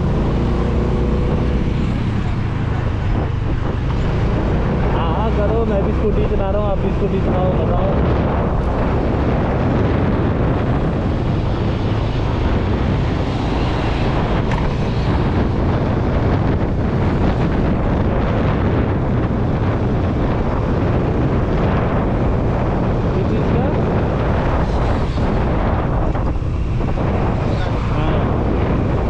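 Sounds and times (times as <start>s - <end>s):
road noise: 0.0s - 29.0s
wind buffeting the microphone: 0.0s - 29.0s.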